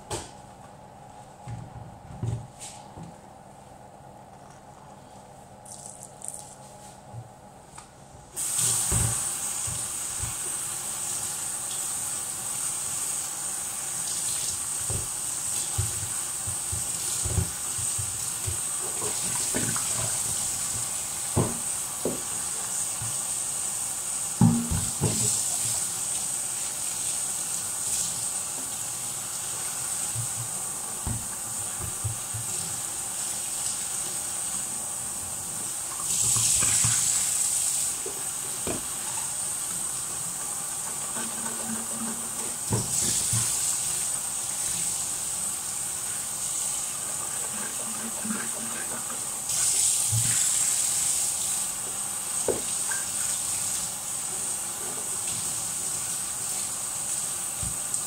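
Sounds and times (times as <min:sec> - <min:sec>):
tap water running: 0:08.4 - 0:58.0.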